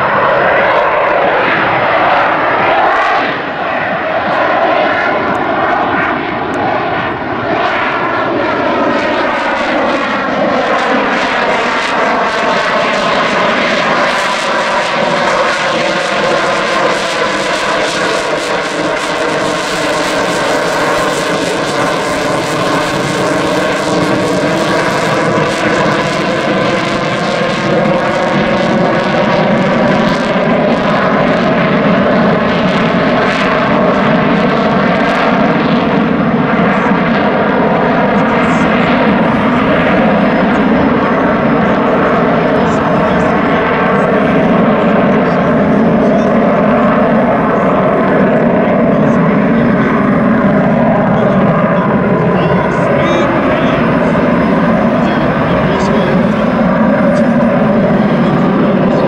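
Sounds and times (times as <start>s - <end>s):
fighter jet engines roaring: 0.0s - 59.0s.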